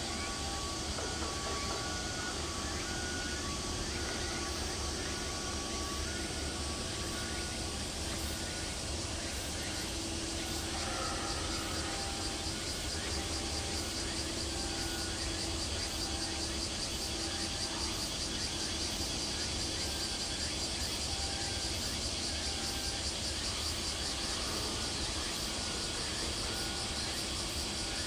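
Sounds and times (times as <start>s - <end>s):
insect-like buzz: 0.0s - 28.0s
low hum and hiss: 0.0s - 28.0s.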